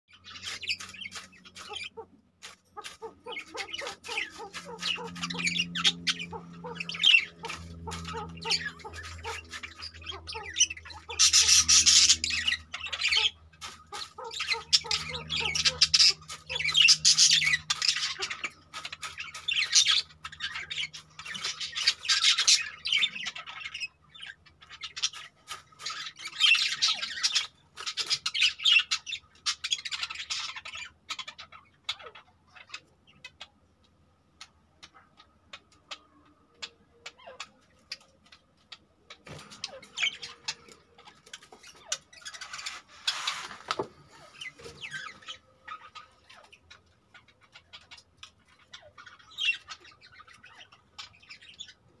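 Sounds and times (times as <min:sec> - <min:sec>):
budgerigars chattering and squawking: 0:00.1 - 0:52.0.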